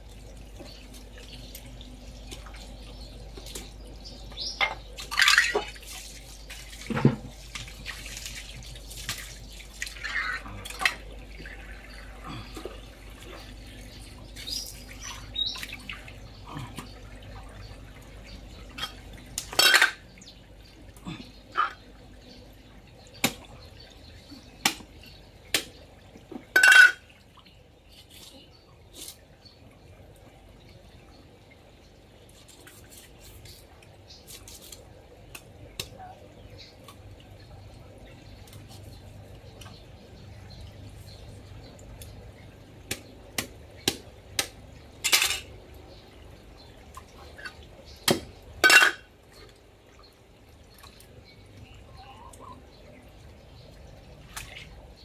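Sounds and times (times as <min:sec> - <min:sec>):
water trickling on concrete: 0:00.0 - 0:55.0.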